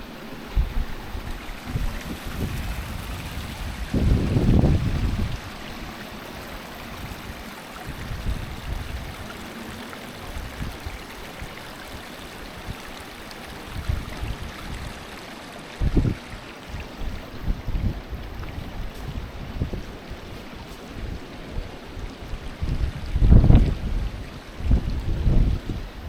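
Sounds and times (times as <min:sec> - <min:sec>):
water rushing in stream: 0:00.0 - 0:26.0
wind buffeting microphone: 0:00.0 - 0:26.0.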